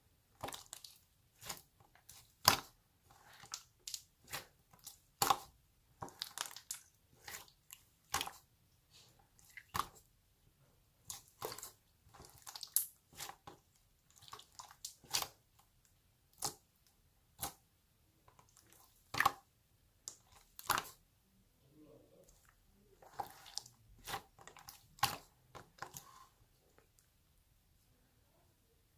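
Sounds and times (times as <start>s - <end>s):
slime squishing: 0.3s - 21.1s, 22.1s - 27.2s.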